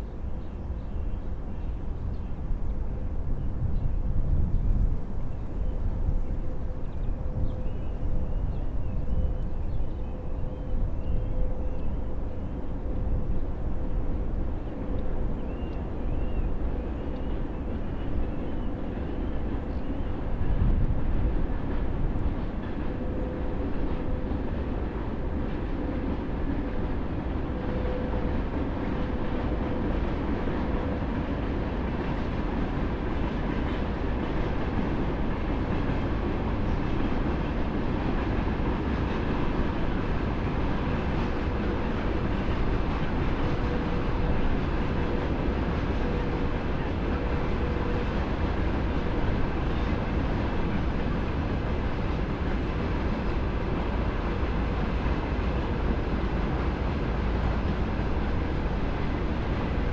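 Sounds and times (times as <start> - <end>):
train passing: 1.3 - 59.9.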